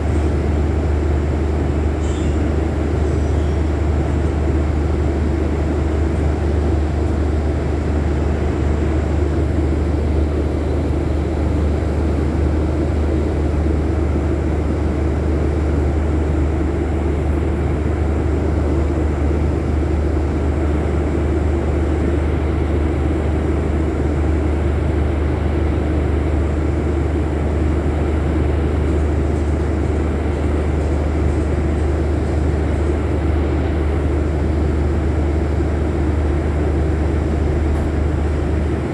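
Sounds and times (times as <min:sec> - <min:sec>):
bus engine droning: 0:00.0 - 0:38.9.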